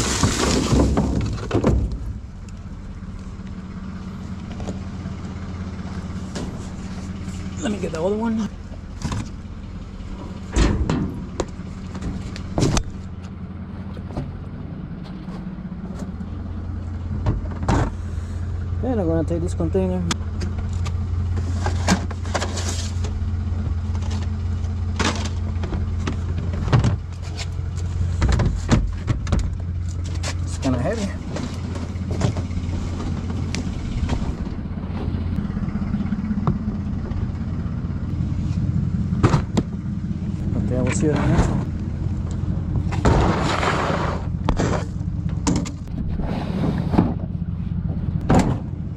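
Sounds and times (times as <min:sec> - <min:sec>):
engine idling hum: 0:00.0 - 0:48.9.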